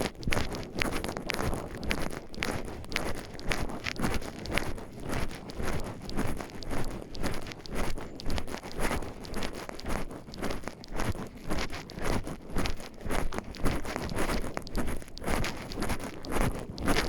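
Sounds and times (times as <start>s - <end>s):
footsteps crunching on forest path: 0.0s - 17.0s.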